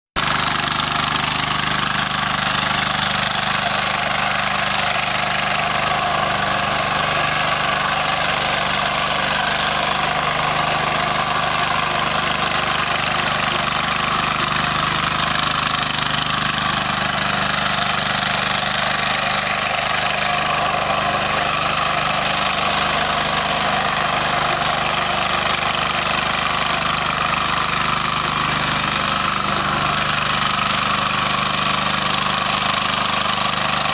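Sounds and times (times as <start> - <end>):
diesel tiller engine running: 0.2 - 33.9.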